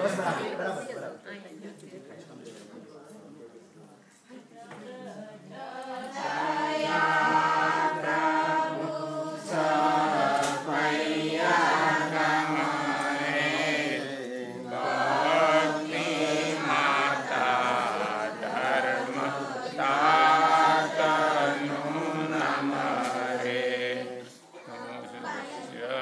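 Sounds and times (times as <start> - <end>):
group chanting in unison: 4.8 - 26.0.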